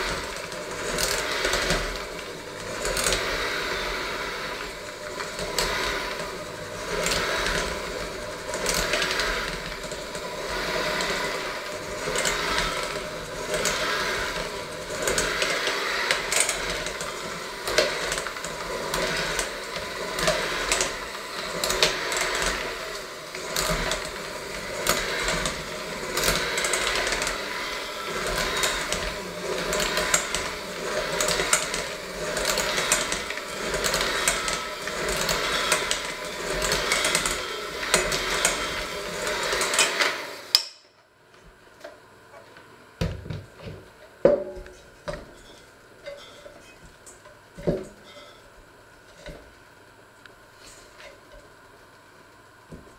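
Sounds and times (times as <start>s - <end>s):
electric hand mixer kneading dough: 0.0s - 42.0s, 43.0s - 49.6s, 52.4s - 52.9s.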